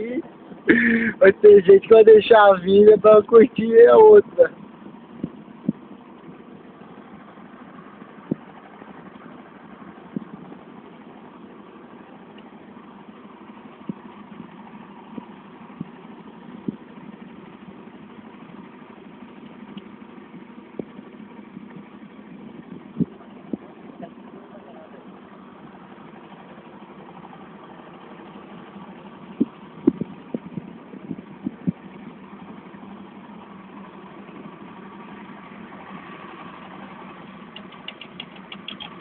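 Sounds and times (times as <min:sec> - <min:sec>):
vehicle engine running at low revs: 0:00.0 - 0:39.0.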